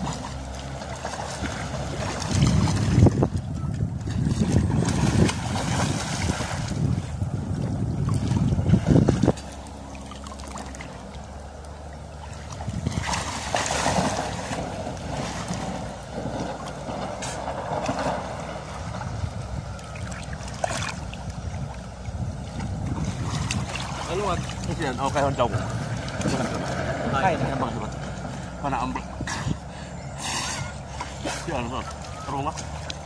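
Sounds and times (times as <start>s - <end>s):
water splashing from swimmer: 0.0s - 29.5s.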